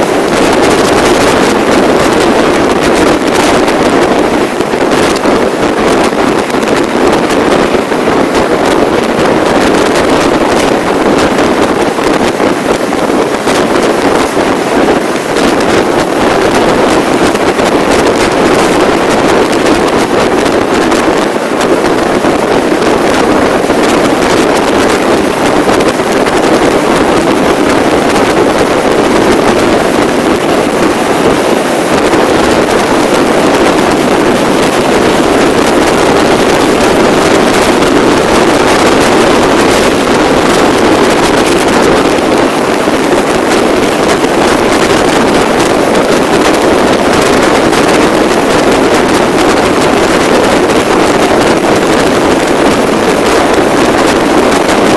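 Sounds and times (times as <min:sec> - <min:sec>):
moving vehicle noise: 0:00.0 - 0:54.9
wind on microphone: 0:00.0 - 0:54.9.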